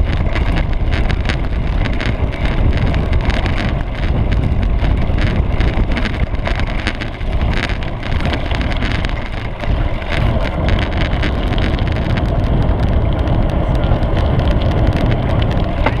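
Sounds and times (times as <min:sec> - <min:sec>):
bike frame rattles and clicks: 0:00.0 - 0:16.0
bike rolling on dirt: 0:00.0 - 0:16.0
wind on microphone: 0:00.0 - 0:16.0.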